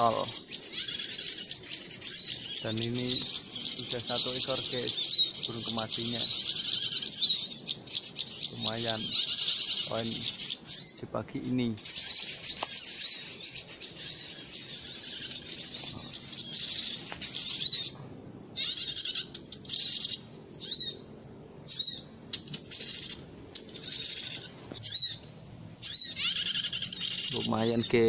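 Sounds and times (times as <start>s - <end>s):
small bird chirping: 0.0s - 28.0s.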